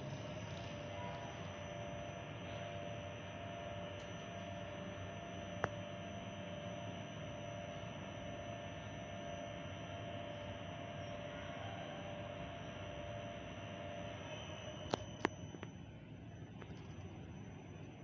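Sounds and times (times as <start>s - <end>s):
thin steady tones: 0.0s - 18.0s.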